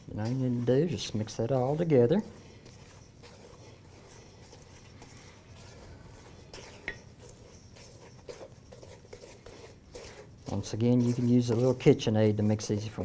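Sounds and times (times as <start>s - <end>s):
stirring dough in metal bowl: 0.0s - 13.0s.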